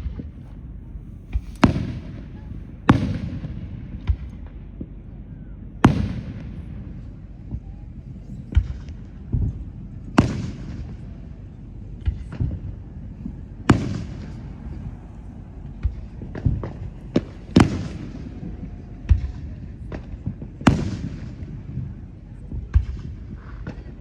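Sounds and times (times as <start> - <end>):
fireworks bangs with rolling echo: 0.0 - 24.0
small firework pops: 1.3 - 5.0, 5.8 - 7.7, 8.5 - 11.3, 12.0 - 24.0.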